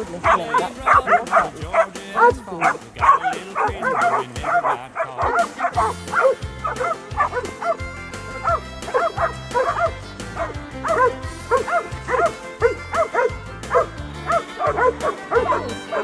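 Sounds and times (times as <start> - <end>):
country song with bass beat: 0.0 - 16.0
dogs yipping and barking: 0.0 - 16.0.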